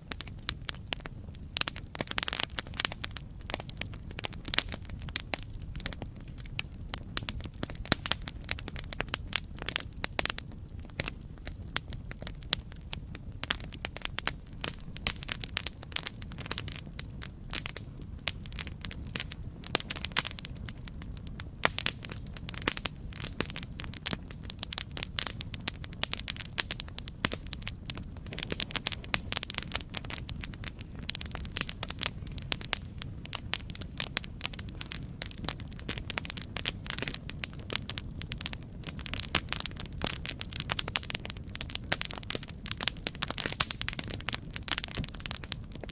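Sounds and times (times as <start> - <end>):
burning wood popping: 0.0 - 45.9
low rumble of flames: 0.0 - 45.9.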